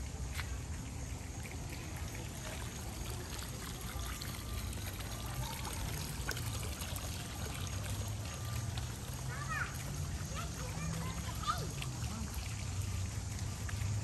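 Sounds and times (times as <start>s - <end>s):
water pouring from fountain: 0.0s - 14.0s.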